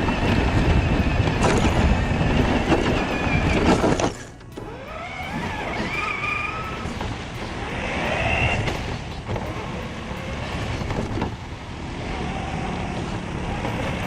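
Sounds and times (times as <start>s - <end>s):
electric motor whining: 0.0s - 11.3s
steady rushing noise: 0.0s - 14.0s.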